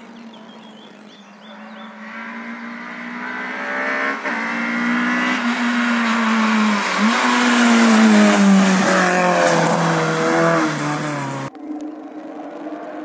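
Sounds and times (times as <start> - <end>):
rally car engine at high revs: 0.2 - 11.5.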